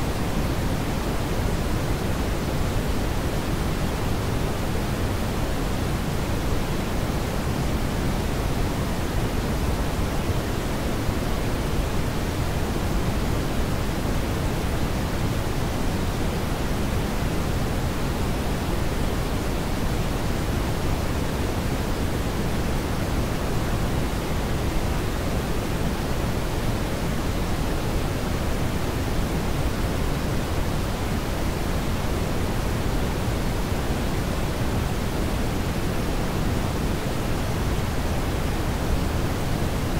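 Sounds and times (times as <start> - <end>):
steady brown noise: 0.0 - 39.9.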